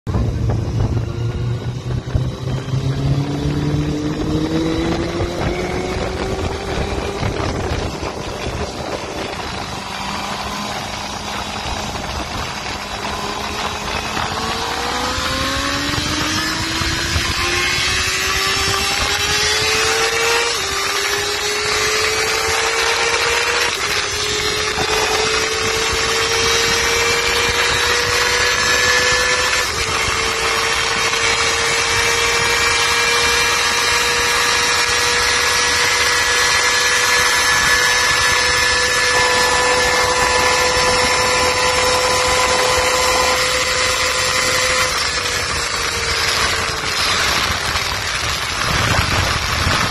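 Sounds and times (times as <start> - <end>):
motorcycle engine accelerating: 0.0 - 49.9
wind rushing: 0.1 - 49.9.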